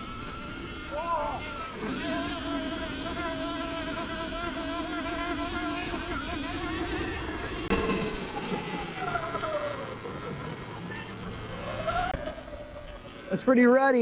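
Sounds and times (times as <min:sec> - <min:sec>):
electric dirt bike motor whining: 0:00.0 - 0:14.0.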